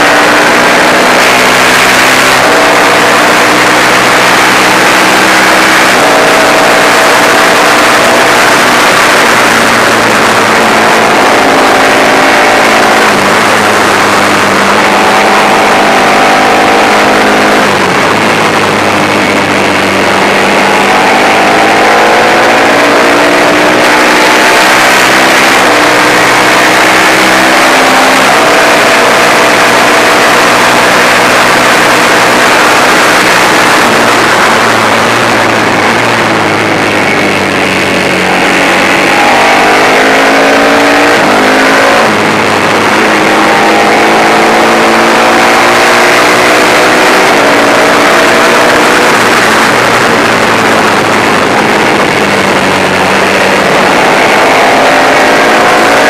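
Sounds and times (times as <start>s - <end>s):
racing engine revving: 0.0s - 56.0s
wind rush on microphone: 0.0s - 56.0s.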